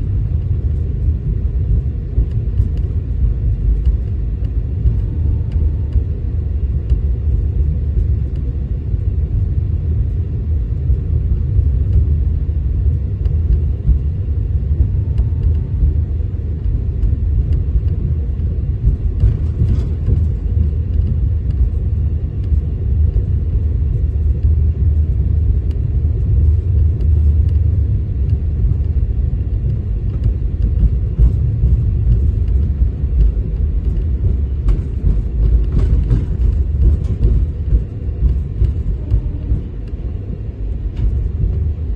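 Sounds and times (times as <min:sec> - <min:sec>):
train wheels rumbling on track: 0:00.0 - 0:41.9.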